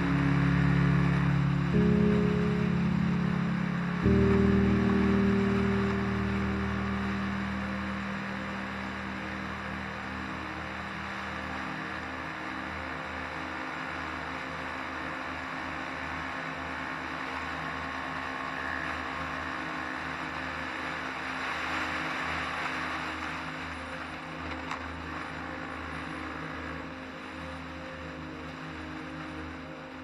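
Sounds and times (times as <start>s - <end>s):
road and wind noise: 0.0s - 30.0s.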